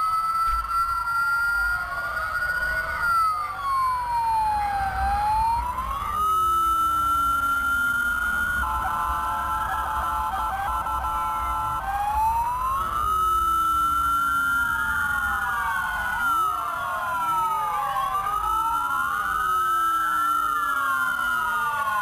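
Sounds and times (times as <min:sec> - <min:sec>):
electronic wail siren: 0:00.0 - 0:22.0
lower siren tone gliding downward: 0:00.0 - 0:22.0
low rumble of traffic: 0:01.5 - 0:22.0.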